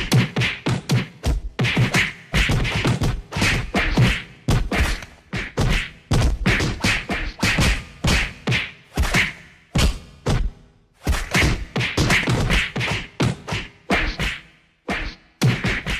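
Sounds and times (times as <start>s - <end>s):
punch and body-hit impacts: 0.0s - 14.4s.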